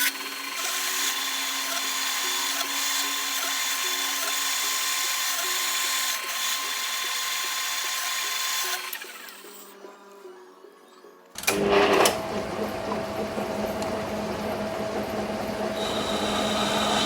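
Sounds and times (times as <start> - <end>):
power tool running: 0.0 - 9.7, 11.4 - 17.0.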